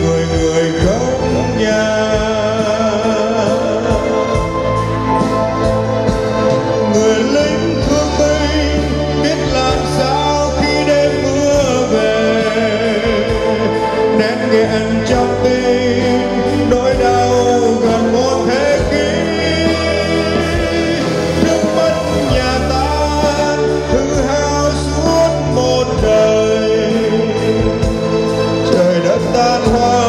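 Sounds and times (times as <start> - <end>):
live band music: 0.0 - 30.0
person singing: 0.0 - 30.0
steady bass line: 0.0 - 30.0.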